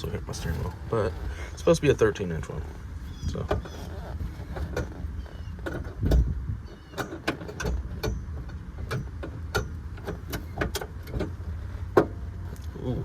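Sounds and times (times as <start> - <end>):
gear shifter clicks and knocks: 0.0 - 12.8.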